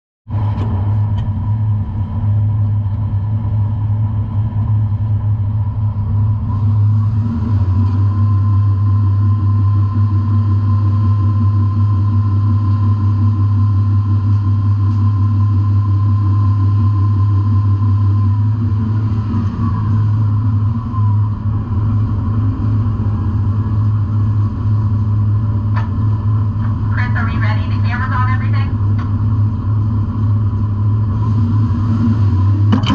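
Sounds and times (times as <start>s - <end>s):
boat engine and deck machinery drone: 0.3s - 32.9s
high whine: 0.3s - 32.9s.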